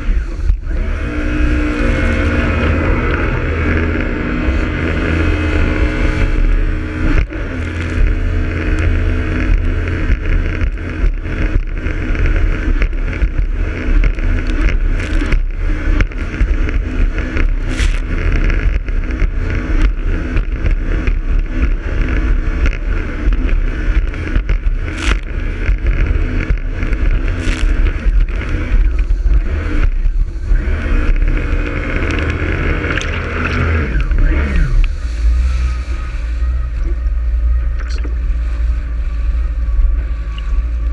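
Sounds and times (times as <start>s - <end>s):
jet ski engine running: 0.0s - 40.9s
wind rumble on microphone: 0.0s - 40.9s.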